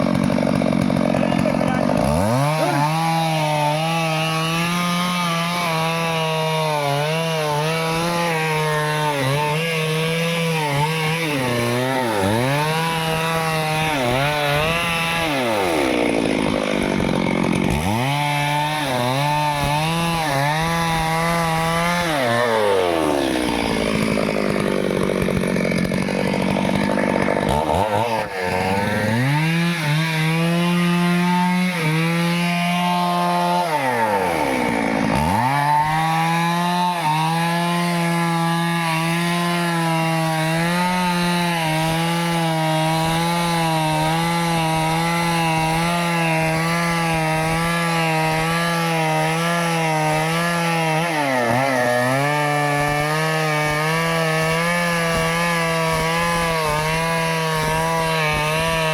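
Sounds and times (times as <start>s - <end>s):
chainsaw cutting tree: 0.0s - 58.9s.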